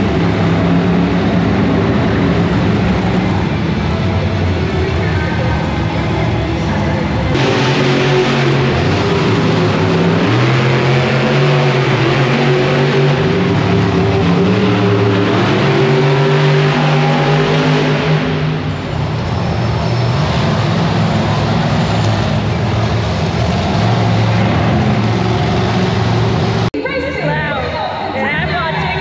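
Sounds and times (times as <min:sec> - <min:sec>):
monster truck engine revving: 0:00.0 - 0:26.8.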